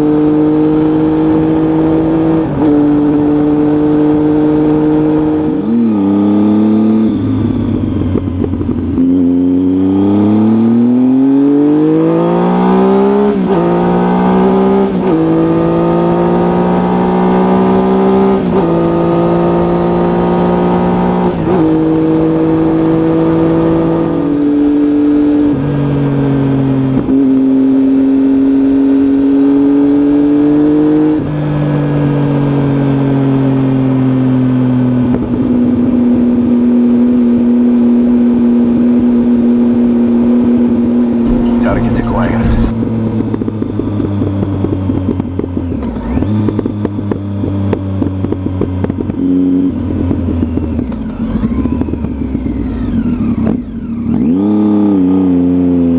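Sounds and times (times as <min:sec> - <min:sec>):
motorcycle engine accelerating: 0:00.0 - 0:32.7, 0:38.3 - 0:55.9.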